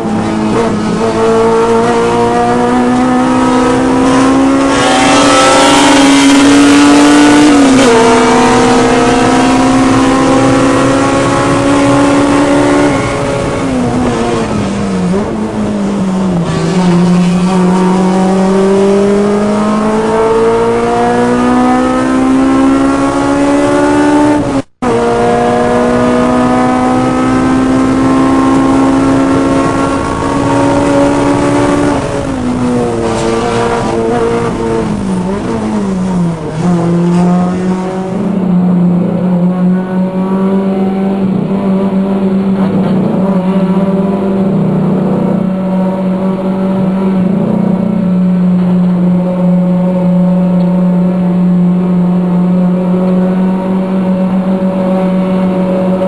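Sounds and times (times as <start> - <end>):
car engine revving on a track: 0.0 - 56.0.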